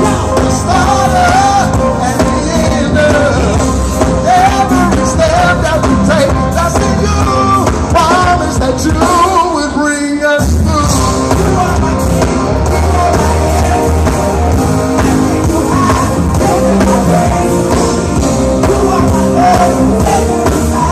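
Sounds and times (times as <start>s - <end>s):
gospel choir singing: 0.0s - 8.5s, 10.8s - 20.9s
band playing: 0.0s - 20.9s.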